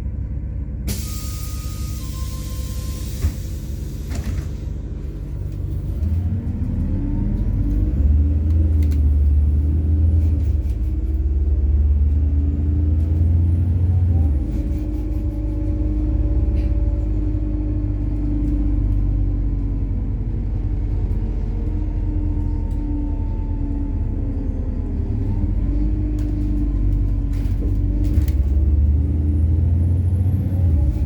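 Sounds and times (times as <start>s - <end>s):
bus engine and road drone: 0.0s - 31.0s
heavy low rumble: 3.0s - 31.0s.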